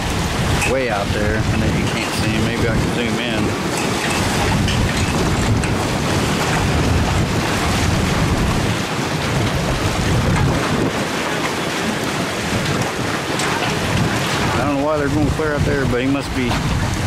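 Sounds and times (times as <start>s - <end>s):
choppy sea water: 0.0s - 17.0s
wind buffeting the microphone: 0.0s - 17.0s.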